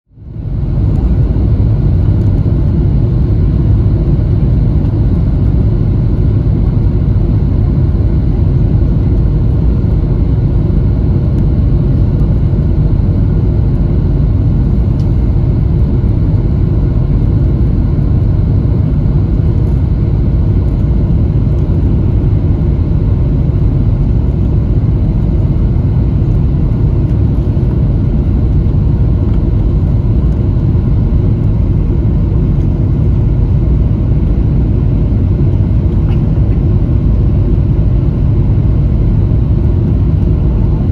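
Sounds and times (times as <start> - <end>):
airliner cabin rumble: 0.1 - 40.9
faint steady hum: 0.1 - 40.9.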